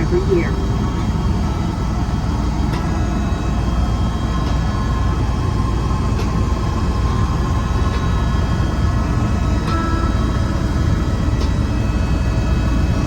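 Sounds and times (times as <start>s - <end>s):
helicopter engine and rotor rumble: 0.0s - 13.0s
thin steady whine: 0.0s - 13.0s.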